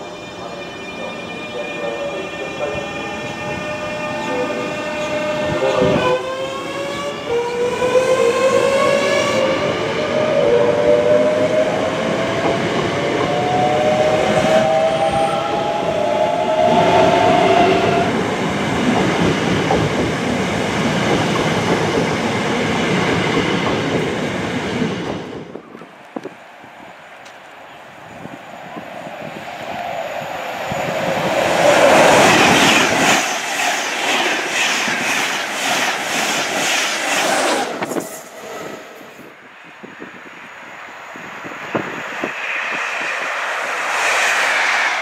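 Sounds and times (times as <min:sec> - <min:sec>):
train wheels rumbling on rails: 0:00.0 - 0:26.4, 0:27.2 - 0:40.4.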